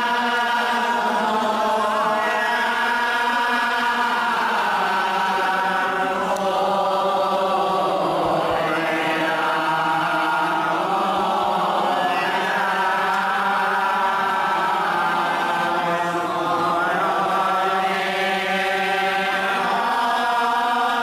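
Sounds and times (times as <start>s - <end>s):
group chanting a hymn: 0.0s - 21.0s.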